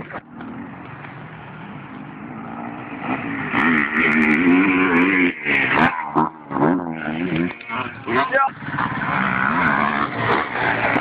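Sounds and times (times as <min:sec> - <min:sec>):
motocross bike engine revving: 0:00.4 - 0:11.0.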